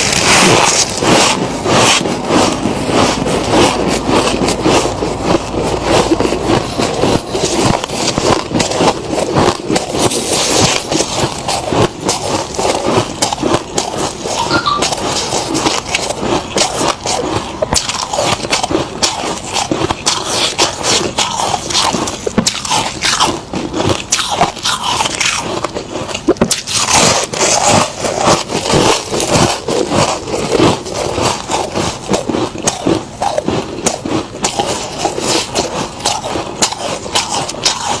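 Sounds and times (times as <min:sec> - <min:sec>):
frost being bitten and chewed: 0:00.0 - 0:38.0.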